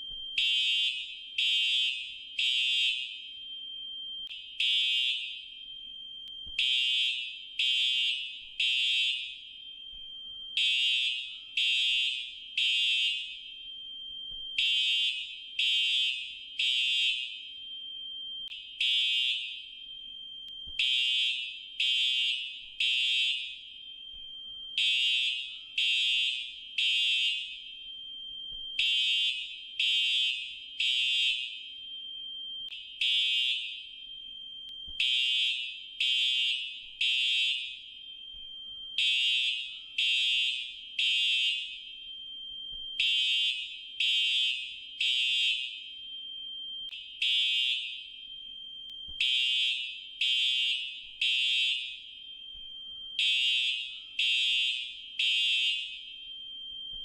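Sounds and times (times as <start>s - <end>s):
fire alarm horn blasts: 0.0s - 57.0s.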